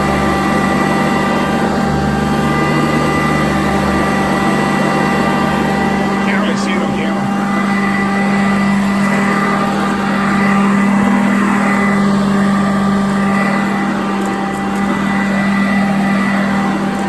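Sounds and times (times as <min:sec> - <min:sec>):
vacuum cleaner running on carpet: 0:00.0 - 0:06.2, 0:07.2 - 0:17.0.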